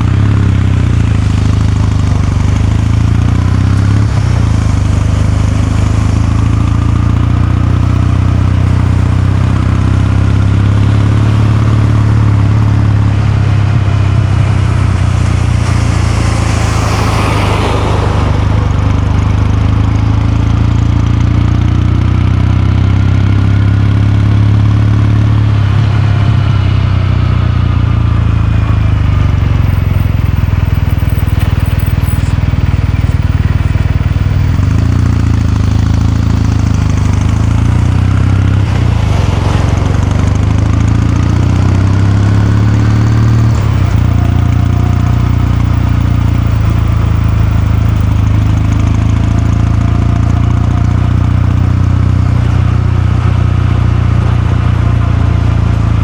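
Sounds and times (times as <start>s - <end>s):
motorcycle engine running steadily: 0.0s - 56.0s.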